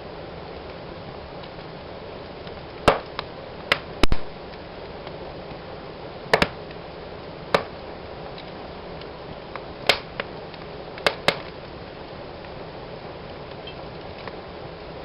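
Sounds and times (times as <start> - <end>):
fire crackling and popping: 0.0 - 15.0
hiss of flames: 0.0 - 15.0.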